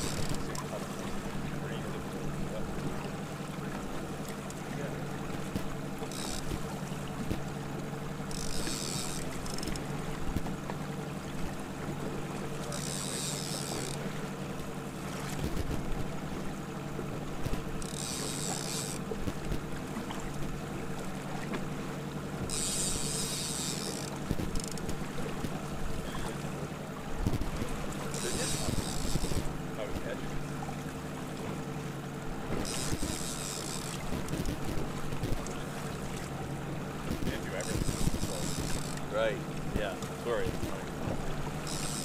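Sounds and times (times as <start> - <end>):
outboard motor humming: 0.0 - 42.0.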